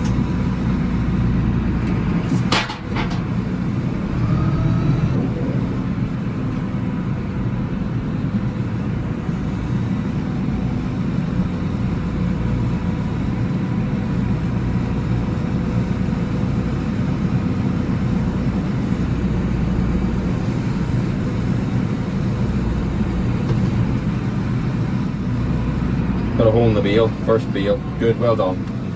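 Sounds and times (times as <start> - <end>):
tractor engine droning: 0.0 - 28.9.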